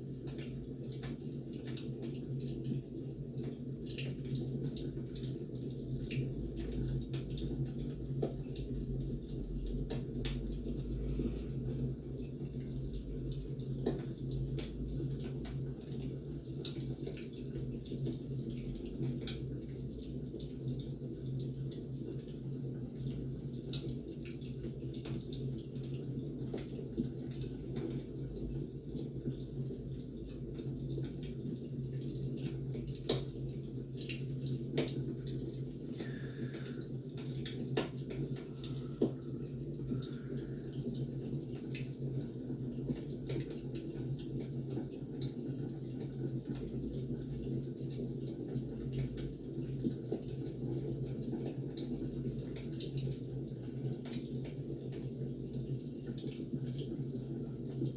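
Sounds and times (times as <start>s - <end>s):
wood fire crackling and popping: 0.1s - 10.9s, 12.0s - 57.2s.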